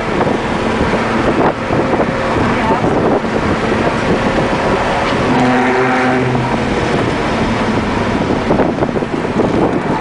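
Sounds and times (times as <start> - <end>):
car engine from inside cabin: 0.0 - 10.0
road noise: 0.0 - 10.0.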